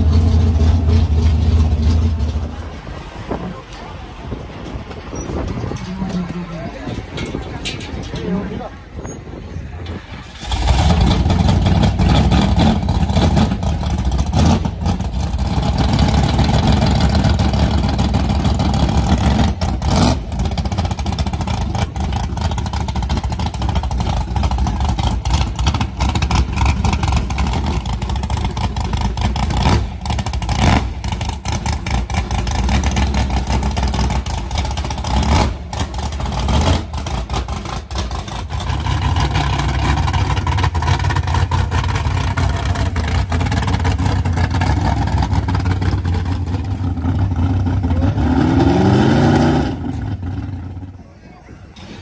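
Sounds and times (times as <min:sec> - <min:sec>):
vehicle engine running loud: 0:00.0 - 0:52.0.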